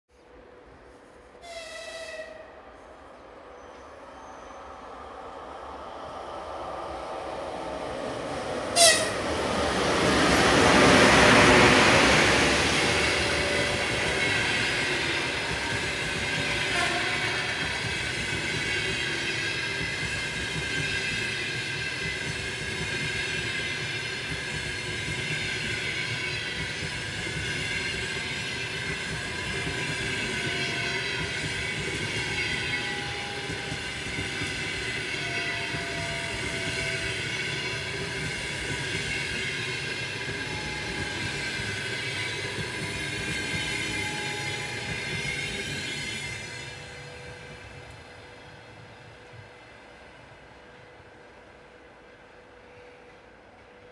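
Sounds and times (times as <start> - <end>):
train wheels rolling on rails: 4.7 - 51.8.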